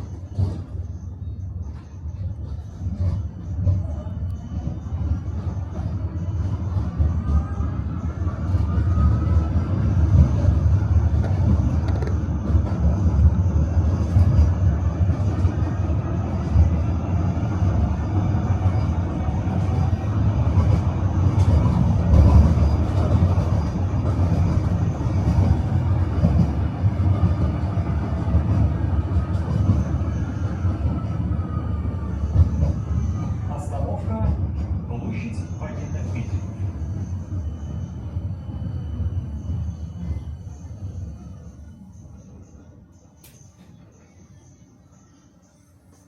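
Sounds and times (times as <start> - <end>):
tram wheels rumbling on rails: 0.0 - 46.0.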